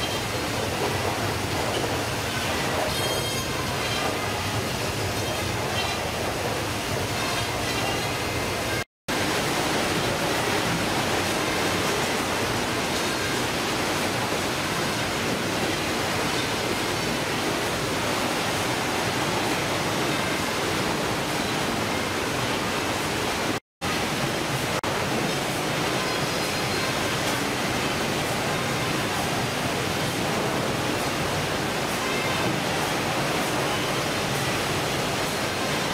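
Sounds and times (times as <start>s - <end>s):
conveyors running: 0.0s - 35.9s
fish-processing machinery: 0.0s - 35.9s
running water: 0.0s - 35.9s.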